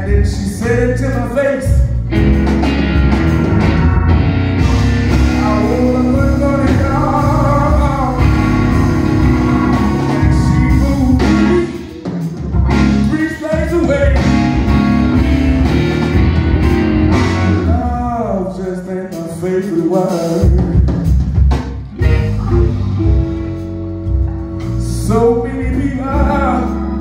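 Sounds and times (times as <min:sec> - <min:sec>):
electric guitar bending lead lines: 0:00.0 - 0:18.4, 0:20.5 - 0:27.0
blues band with drum kit: 0:00.0 - 0:27.0.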